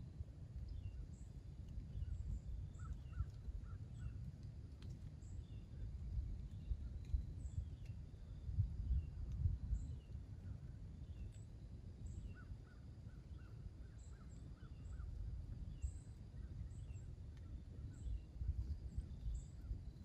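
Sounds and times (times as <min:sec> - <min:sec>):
small birds chirping: 0:00.6 - 0:20.0.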